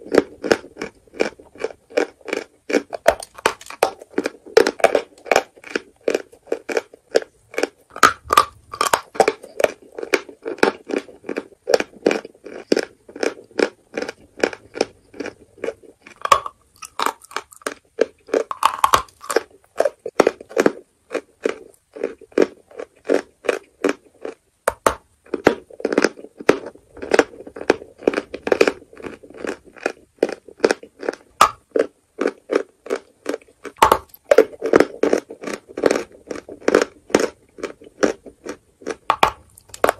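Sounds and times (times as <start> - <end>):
chalk crunching when chewed: 0.0 - 24.4, 25.3 - 39.9.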